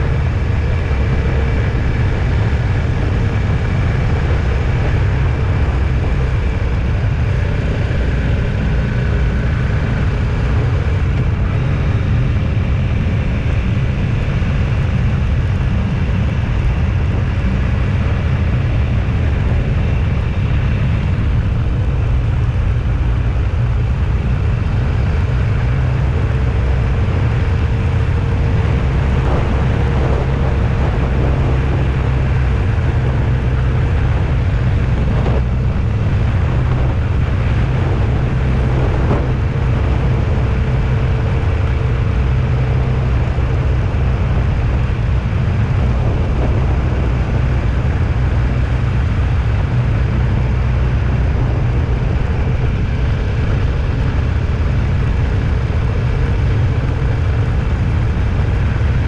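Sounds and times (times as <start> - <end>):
faint steady hum: 0.0 - 59.0
road and engine rumble: 0.0 - 59.0.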